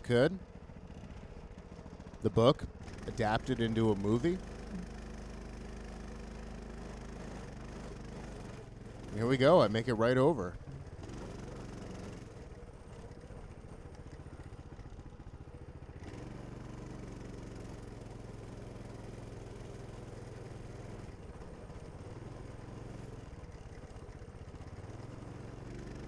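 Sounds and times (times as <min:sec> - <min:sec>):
small motorbike engine running: 0:00.0 - 0:26.0.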